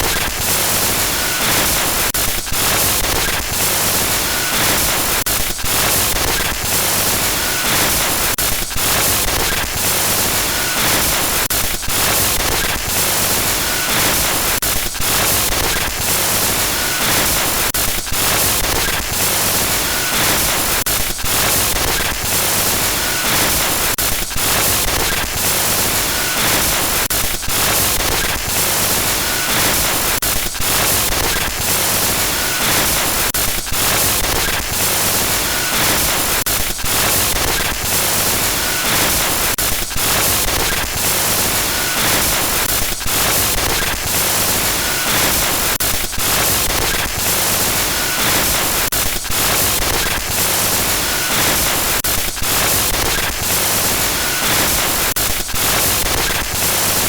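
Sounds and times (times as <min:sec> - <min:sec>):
harsh electronic static glitch: 0:00.0 - 0:57.0.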